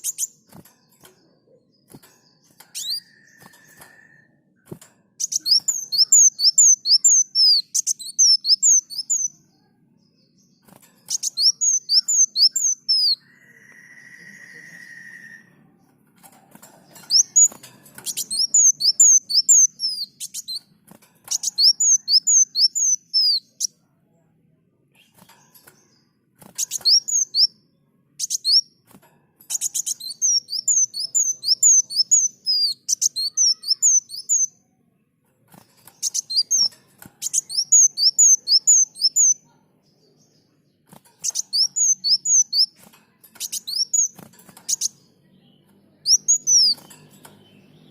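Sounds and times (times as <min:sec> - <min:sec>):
sunbird chirping song: 0:00.0 - 0:28.9, 0:29.5 - 0:47.9.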